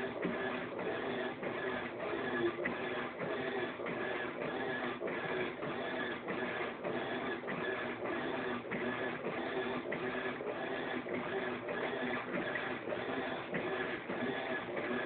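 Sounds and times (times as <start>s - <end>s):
washing machine churning: 0.0s - 15.0s.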